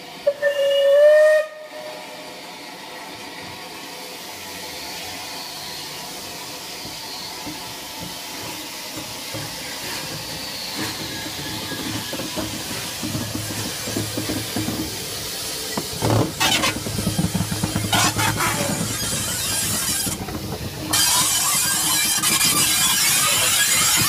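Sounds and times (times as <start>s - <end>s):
loud steam bursts: 0.0s - 24.0s
steam hissing: 0.0s - 24.0s
train running: 0.0s - 24.0s.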